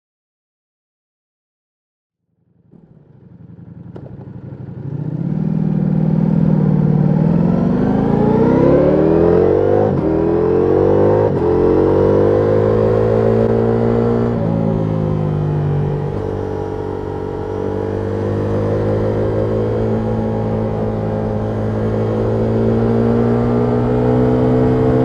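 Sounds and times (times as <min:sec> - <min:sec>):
motorcycle engine accelerating hard: 0:02.6 - 0:25.0
quick gear upshifts: 0:02.7 - 0:25.0.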